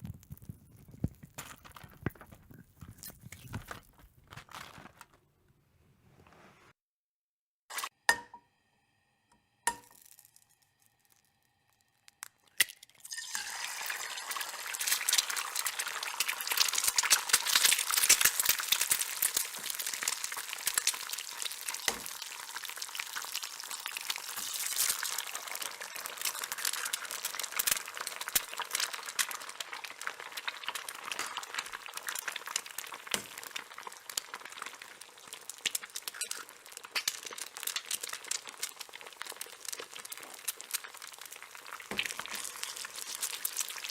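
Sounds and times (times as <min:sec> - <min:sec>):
eggs sizzling in a pan: 0:00.0 - 0:04.3, 0:08.1 - 0:43.9.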